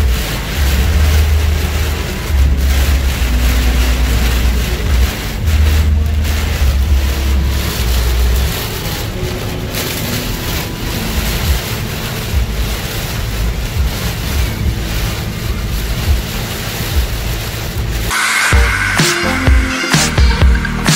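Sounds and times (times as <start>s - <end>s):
heavy rain on a car: 0.0s - 20.9s.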